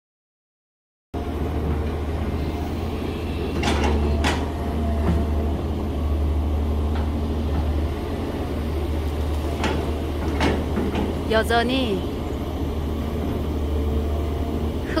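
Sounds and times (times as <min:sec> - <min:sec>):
excavator diesel engine running: 0:01.2 - 0:15.0.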